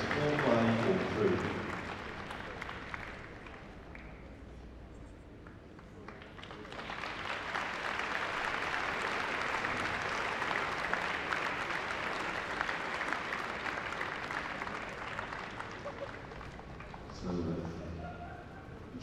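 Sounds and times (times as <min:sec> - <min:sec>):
crowd applauding: 0:00.0 - 0:04.4, 0:05.4 - 0:18.7.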